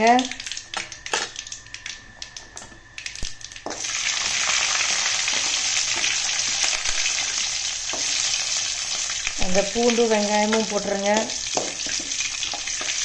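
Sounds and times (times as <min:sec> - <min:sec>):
loud steady sizzle: 0:00.0 - 0:13.0
seeds crackling in hot oil: 0:00.0 - 0:13.0.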